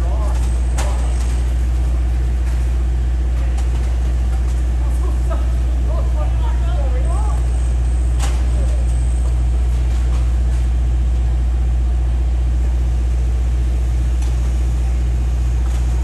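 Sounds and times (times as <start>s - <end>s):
heavy machinery engine idling: 0.0s - 16.0s.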